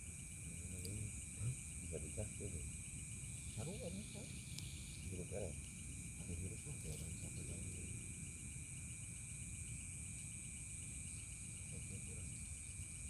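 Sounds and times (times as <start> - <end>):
insects high continuous buzz: 0.0 - 13.0
insects pulsing trill: 0.0 - 13.0.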